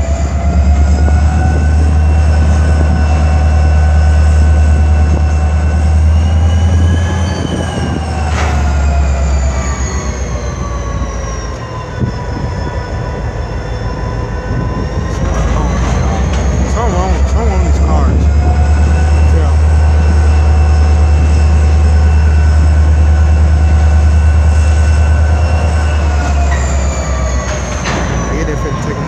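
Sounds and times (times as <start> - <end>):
diesel locomotive rumbling past: 0.0 - 29.0
high-pitched whine: 0.0 - 29.0.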